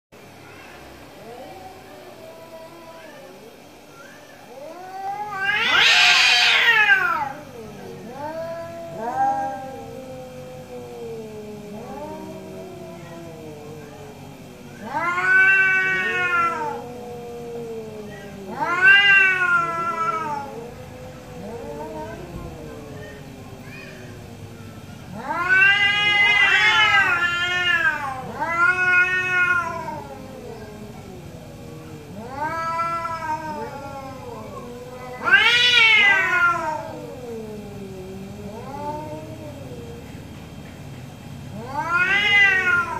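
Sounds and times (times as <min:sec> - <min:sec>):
cats yowling: 0:00.2 - 0:42.9
loud cat wail: 0:04.0 - 0:24.2, 0:25.0 - 0:31.4, 0:32.1 - 0:40.2, 0:41.5 - 0:42.9.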